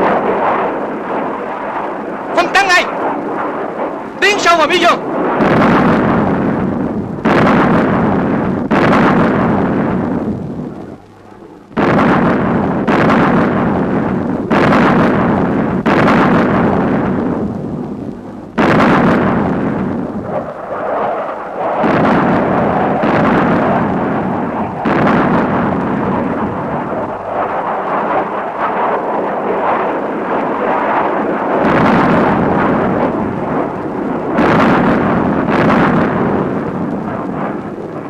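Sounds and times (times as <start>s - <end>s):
continuous noisy din: 0.0s - 38.0s
loud explosions: 0.0s - 38.0s.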